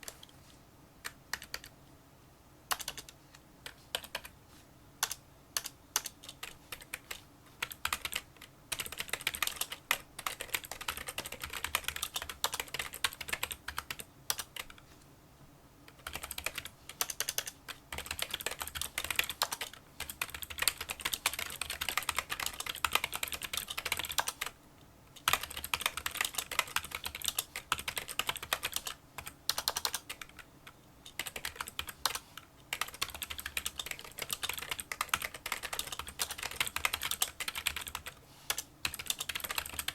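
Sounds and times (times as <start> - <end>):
keyboard typing: 1.0 - 1.7, 2.7 - 4.3, 5.0 - 14.8, 15.9 - 24.6, 25.2 - 39.9.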